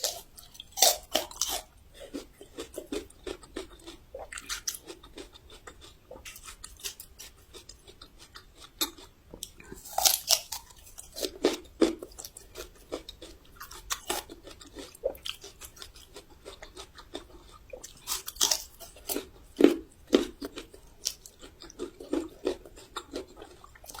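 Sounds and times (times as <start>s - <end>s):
chewing crunchy ginger root: 0.0s - 24.0s.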